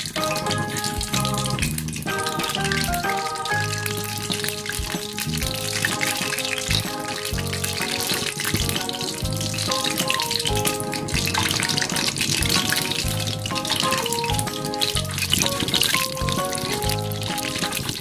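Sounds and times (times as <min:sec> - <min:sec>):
food sizzling in a pan: 0:00.0 - 0:18.0
plucked melody with bass: 0:00.0 - 0:18.0.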